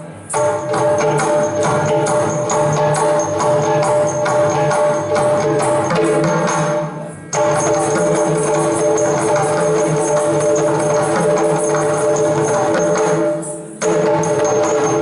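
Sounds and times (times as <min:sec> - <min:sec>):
rapid drum strokes: 0:00.0 - 0:15.0.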